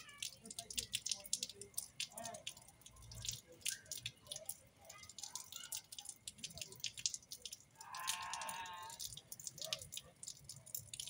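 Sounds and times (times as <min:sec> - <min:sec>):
rainwater dripping and splashing: 0:00.0 - 0:11.0.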